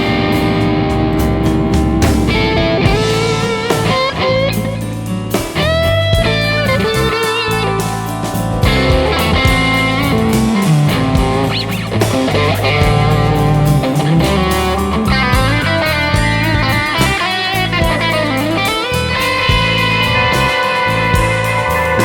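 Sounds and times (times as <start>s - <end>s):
bass and drums: 0.0s - 22.0s
electric guitar: 0.0s - 22.0s.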